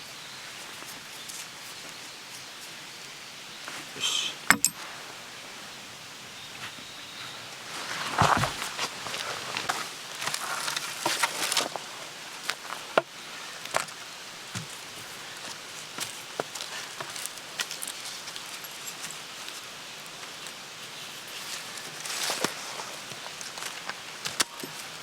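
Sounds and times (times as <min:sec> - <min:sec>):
rustling and shuffling: 0:00.4 - 0:02.8, 0:06.6 - 0:25.0.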